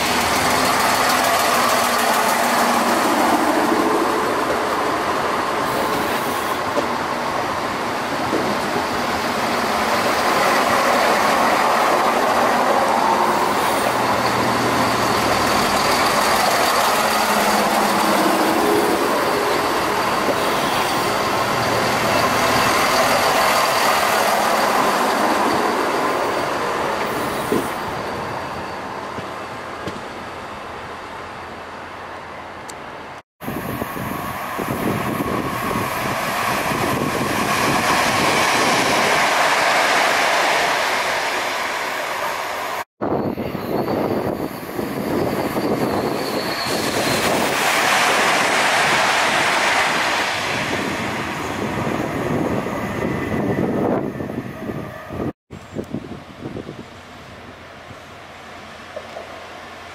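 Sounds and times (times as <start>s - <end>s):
train passing: 0.0s - 59.9s.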